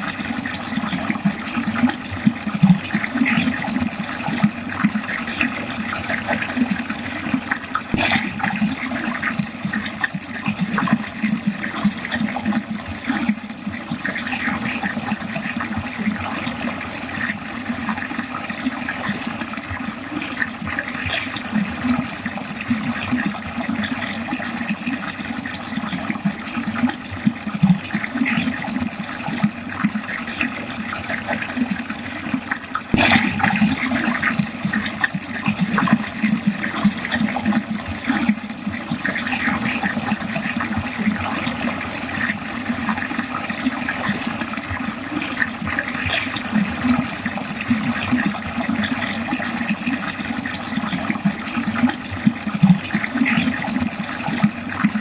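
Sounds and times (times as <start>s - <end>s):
water flowing down a drain: 0.0s - 55.0s.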